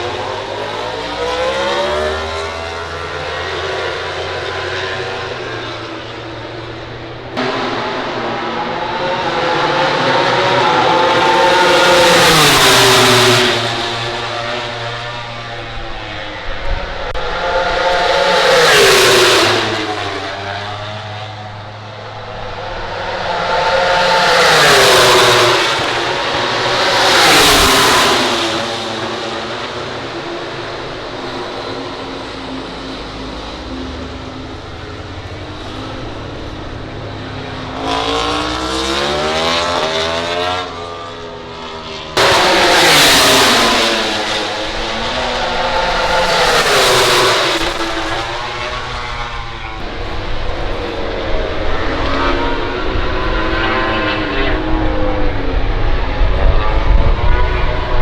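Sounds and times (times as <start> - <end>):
motorcycle engines revving: 0.0 - 58.0
racing motorcycles passing by: 0.0 - 58.0.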